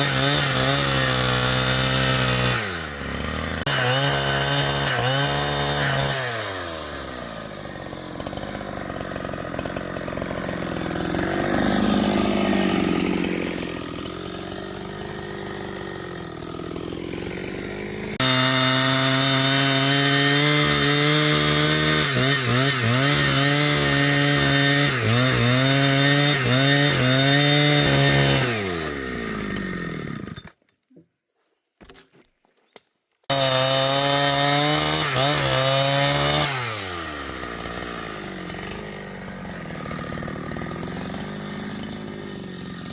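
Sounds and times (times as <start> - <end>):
chainsaw cutting wood: 0.0 - 30.8, 33.3 - 42.9.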